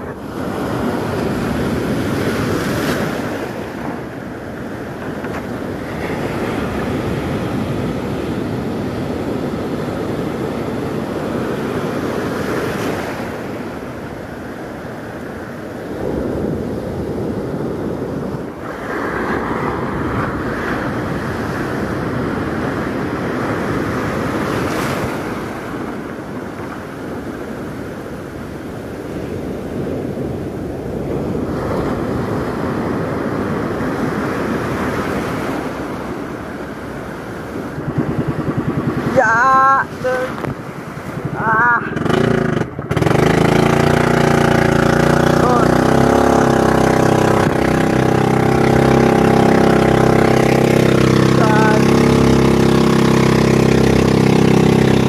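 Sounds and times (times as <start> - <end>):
boat engine running: 0.0 - 28.6, 35.6 - 55.0
sea waves rushing: 0.0 - 55.0
wind buffeting microphone: 0.0 - 55.0.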